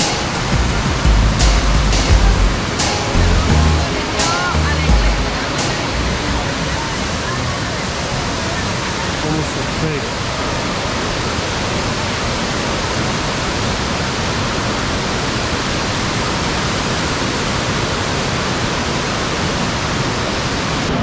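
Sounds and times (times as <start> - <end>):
whitewater rushing: 0.0 - 21.0.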